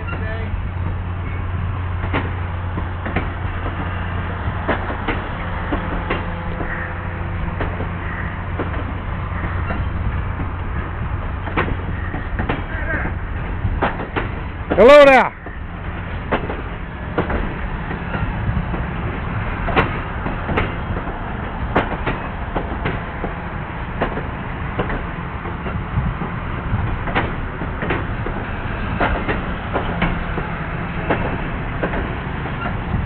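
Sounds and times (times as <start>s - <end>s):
train cars rumbling by: 0.0s - 33.0s
wheels and couplers clanking: 0.0s - 33.0s.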